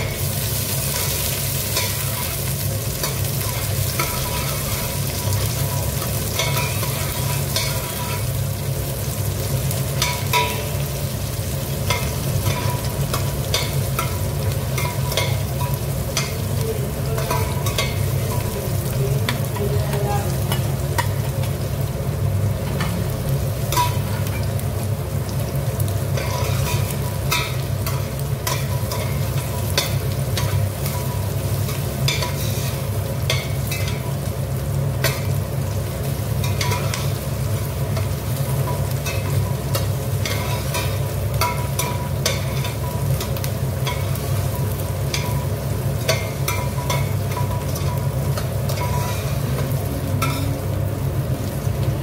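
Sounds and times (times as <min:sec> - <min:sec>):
food sizzling in a pot: 0:00.0 - 0:52.0.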